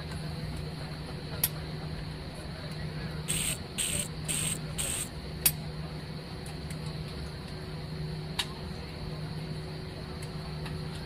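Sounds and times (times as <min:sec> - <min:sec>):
airliner engines droning: 0:00.0 - 0:11.0.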